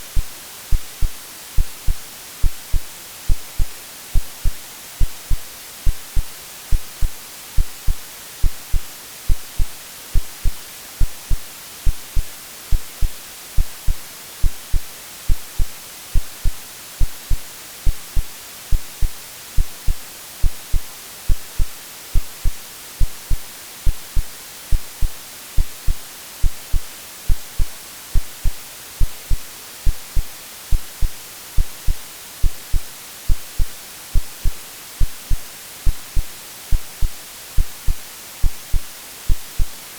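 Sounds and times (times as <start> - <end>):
white noise hiss: 0.0 - 39.9
heartbeat double thump: 4.2 - 39.7.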